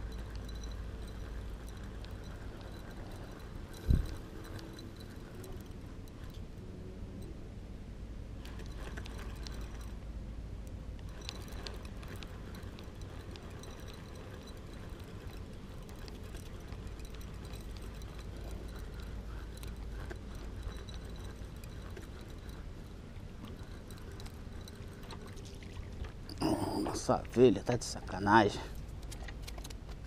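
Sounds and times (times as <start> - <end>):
fishing reel cranking: 0.0 - 6.6, 8.4 - 10.0, 11.0 - 29.7
faint reel ticks: 0.0 - 7.5, 8.3 - 30.0
low steady rumble: 0.0 - 30.0.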